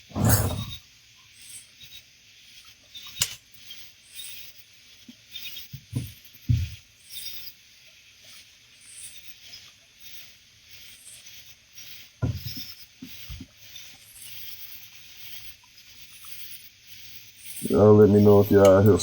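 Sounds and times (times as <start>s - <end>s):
insects chirring: 0.0s - 19.0s
soft hiss: 0.0s - 19.0s.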